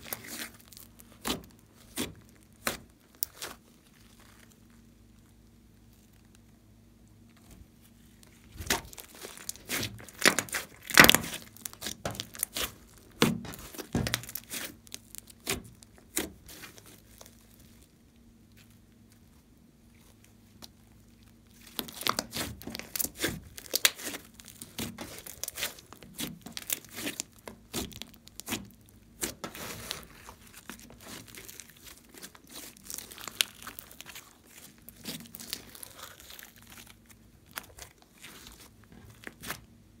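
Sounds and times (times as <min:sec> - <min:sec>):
slime crackling and tearing: 0:00.0 - 0:06.4, 0:07.9 - 0:39.7.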